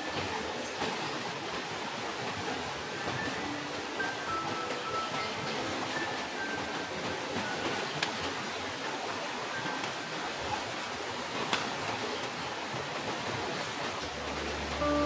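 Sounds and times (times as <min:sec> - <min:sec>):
rushing outdoor ambience: 0:00.0 - 0:15.0.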